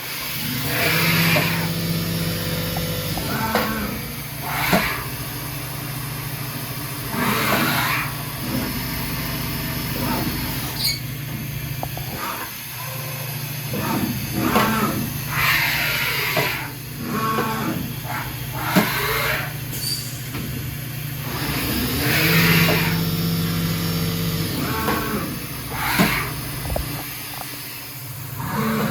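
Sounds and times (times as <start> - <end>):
machine whirring surges: 0.0 - 20.0, 21.0 - 28.9
machine low hum: 0.0 - 28.9.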